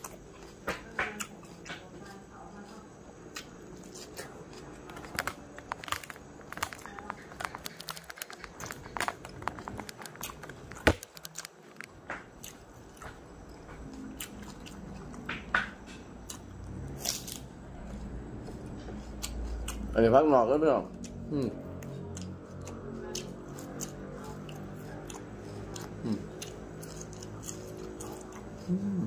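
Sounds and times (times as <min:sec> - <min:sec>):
crunchy food chewing: 0:00.0 - 0:20.3, 0:20.9 - 0:29.0.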